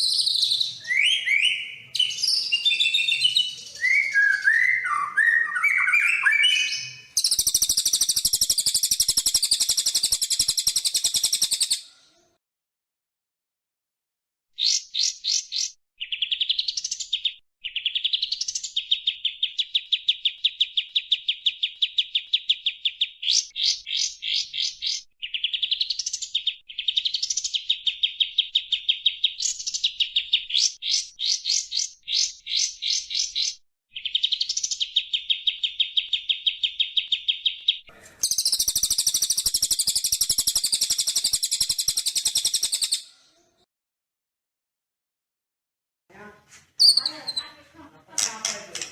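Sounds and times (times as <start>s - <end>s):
songbird singing: 0.0s - 11.8s, 14.6s - 43.1s, 46.8s - 47.6s.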